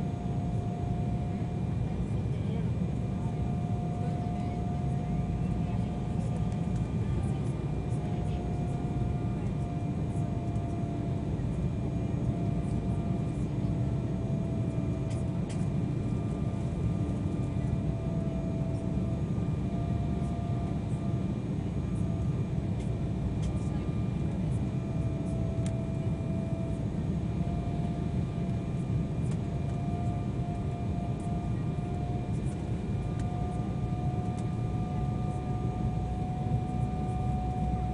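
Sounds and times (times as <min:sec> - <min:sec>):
airliner cabin airflow and engine noise: 0:00.0 - 0:37.9.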